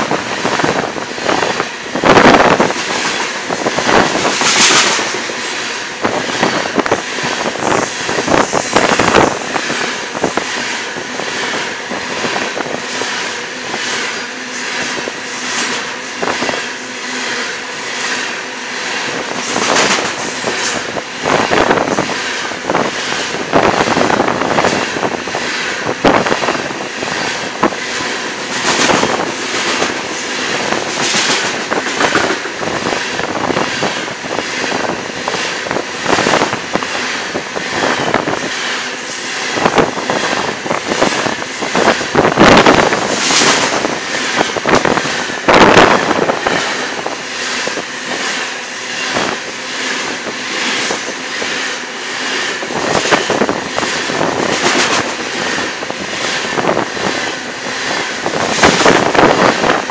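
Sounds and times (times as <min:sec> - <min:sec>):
steel wheels rolling on rail: 0:00.0 - 0:59.9
train cars clanking: 0:00.0 - 0:59.9.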